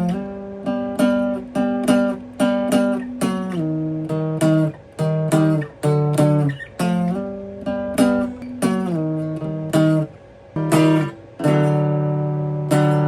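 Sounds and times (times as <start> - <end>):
guitar chords strummed: 0.0 - 13.0.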